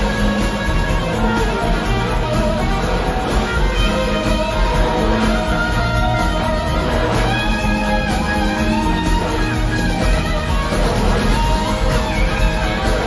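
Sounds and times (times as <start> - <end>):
live blues-rock band instrumental: 0.0 - 13.0.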